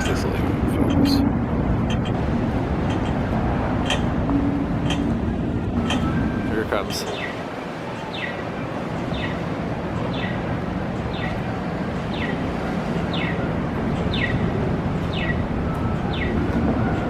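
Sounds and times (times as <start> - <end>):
strong wind gusting: 0.0 - 17.0.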